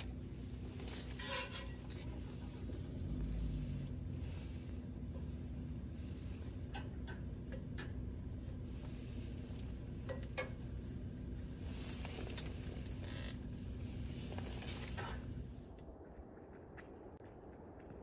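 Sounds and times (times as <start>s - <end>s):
stove low hum: 0.0s - 16.1s.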